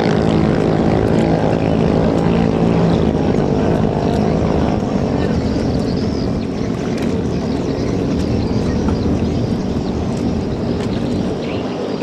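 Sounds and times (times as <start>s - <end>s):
boat engines at full speed: 0.0s - 12.0s.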